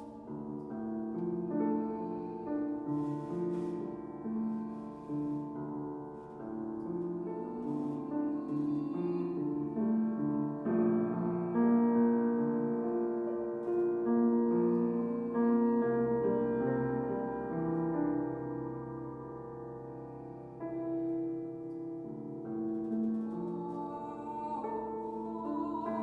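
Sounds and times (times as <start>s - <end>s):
piano slow held chords: 0.0s - 26.0s.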